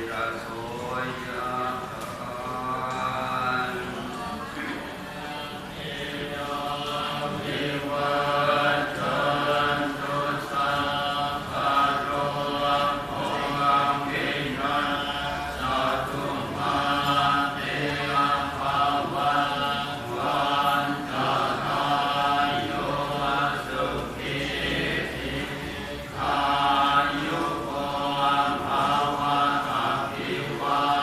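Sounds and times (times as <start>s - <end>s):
voices chanting in unison: 0.0s - 31.0s.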